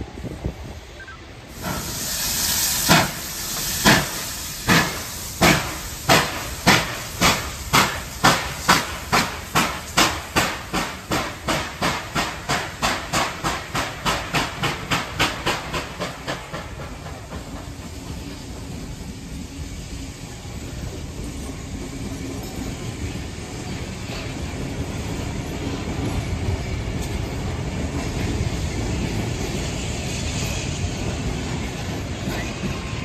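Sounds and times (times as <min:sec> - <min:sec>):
steam hiss: 0:00.0 - 0:33.0
steam locomotive exhaust chuffs: 0:01.5 - 0:33.0.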